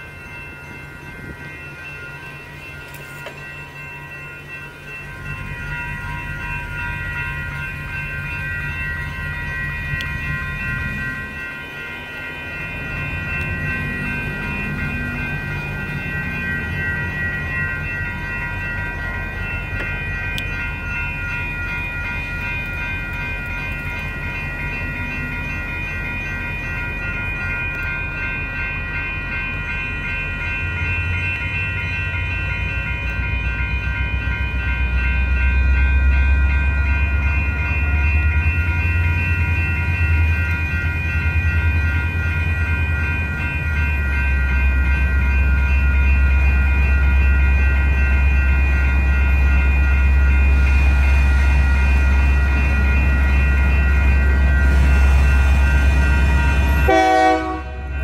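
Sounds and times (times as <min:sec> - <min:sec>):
diesel locomotive rumble: 0:00.0 - 0:58.0
railroad crossing bells ringing: 0:00.0 - 0:58.0.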